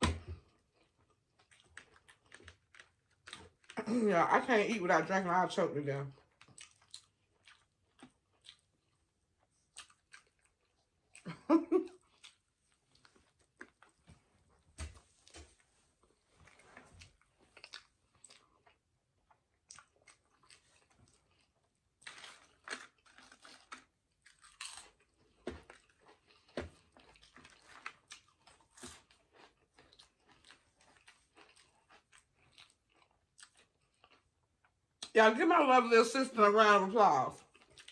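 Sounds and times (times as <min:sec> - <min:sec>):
chewing and biting: 0:00.0 - 0:03.8, 0:06.1 - 0:35.1, 0:37.4 - 0:37.9.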